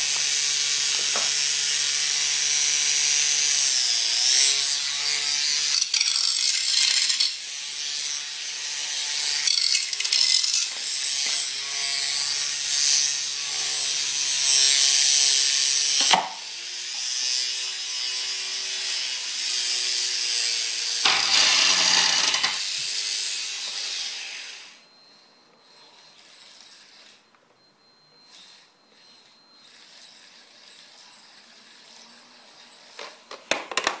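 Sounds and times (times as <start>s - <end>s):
robot weapon motor whirring: 0.1s - 17.6s, 19.3s - 24.8s, 25.6s - 27.2s, 28.2s - 33.3s.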